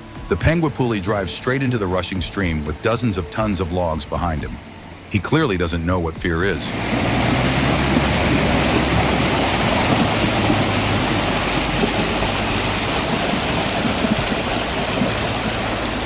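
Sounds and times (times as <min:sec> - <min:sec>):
stream water rushing: 0:00.0 - 0:16.0
truck engine low hum: 0:00.0 - 0:16.0.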